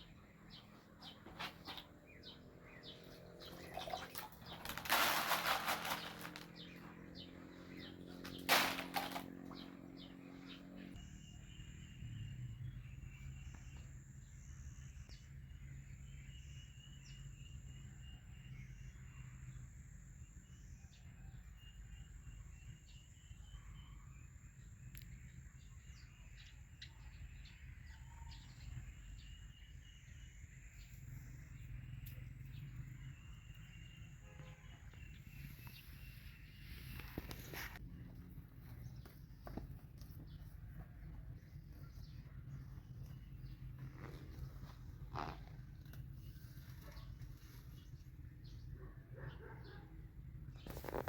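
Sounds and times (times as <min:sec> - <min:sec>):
birds chirping: 0:00.0 - 0:18.8, 0:25.2 - 0:51.0.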